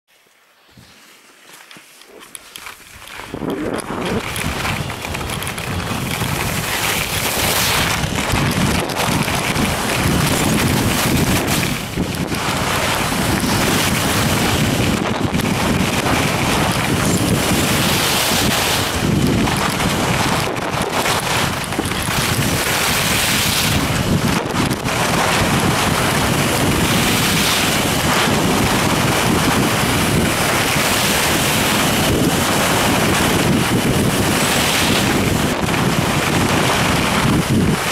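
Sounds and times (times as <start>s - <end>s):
wind buffeting microphone: 2.6s - 37.9s.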